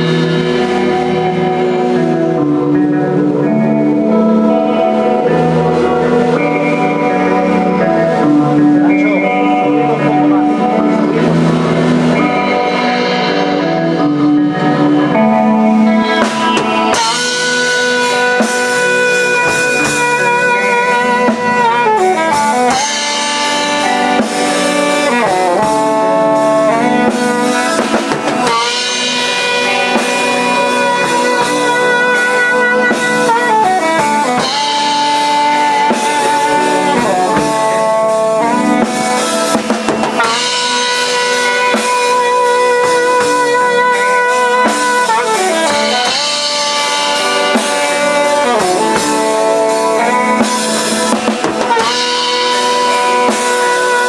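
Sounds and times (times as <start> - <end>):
bass guitar: 0.0 - 54.0
drum kit: 0.0 - 54.0
electric guitar: 0.0 - 54.0
saxophone: 0.0 - 54.0.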